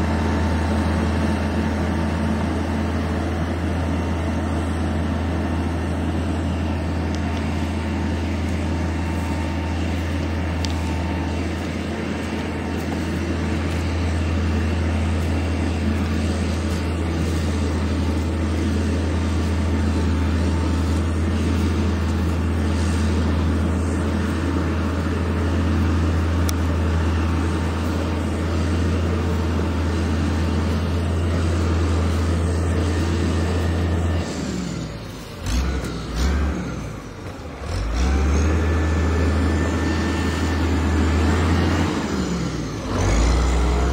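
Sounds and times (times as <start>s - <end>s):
large engine droning: 0.0s - 43.9s.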